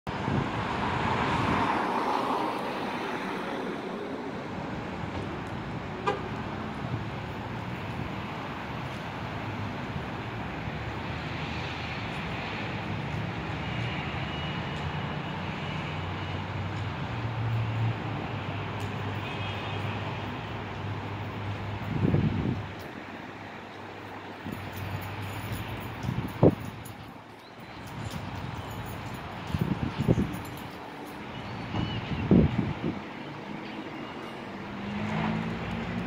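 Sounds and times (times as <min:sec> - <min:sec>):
passing road traffic: 0:00.1 - 0:36.0.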